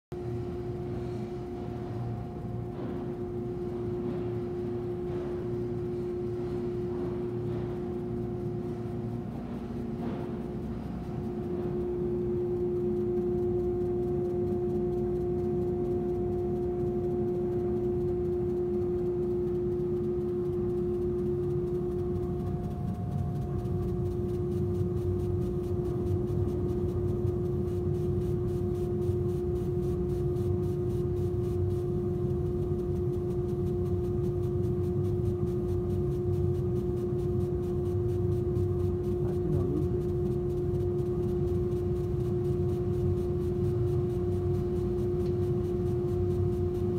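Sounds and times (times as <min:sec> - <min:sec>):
laser cutting machine humming: 0:00.2 - 0:46.9.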